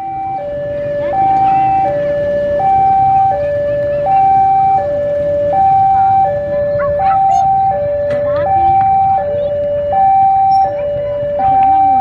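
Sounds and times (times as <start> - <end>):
two-tone crossing alarm: 0.0 - 12.0.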